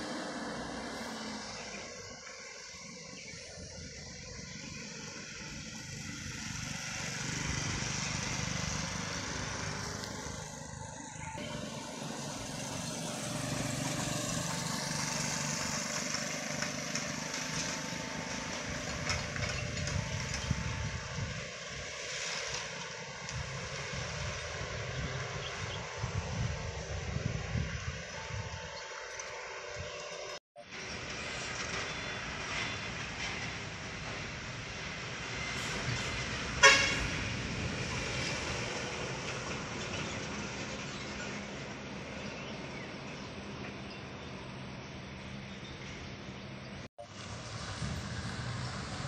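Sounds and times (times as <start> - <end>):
truck engines labouring uphill: 0.0 - 49.0.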